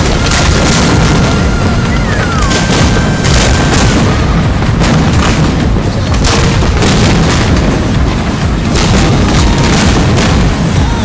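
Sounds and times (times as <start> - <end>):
firework bursts: 0.0 - 11.0
low rumble of booms: 0.0 - 11.0.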